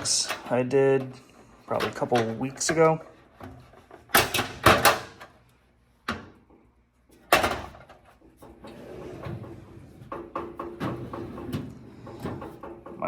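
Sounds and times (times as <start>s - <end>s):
metal toolbox drawers clacking: 0.0s - 5.3s, 7.2s - 13.0s.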